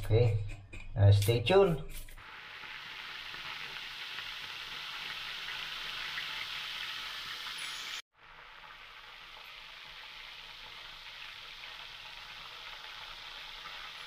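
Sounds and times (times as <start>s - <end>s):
oil sizzling around frying fish: 2.2s - 14.0s.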